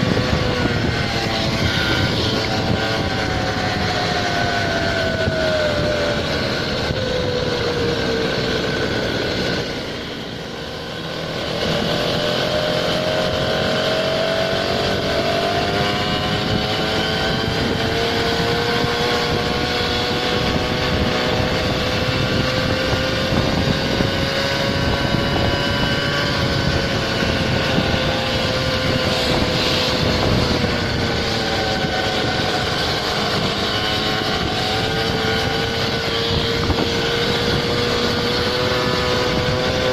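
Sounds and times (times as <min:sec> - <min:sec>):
scooter engine running: 0:00.0 - 0:39.9
steady rush of noise: 0:00.0 - 0:39.9.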